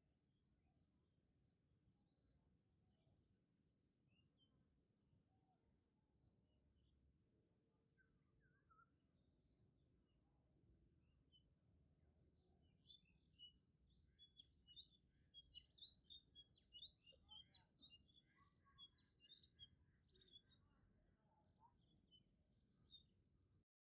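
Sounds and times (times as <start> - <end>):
faint small birds chirping: 0.0 - 24.0.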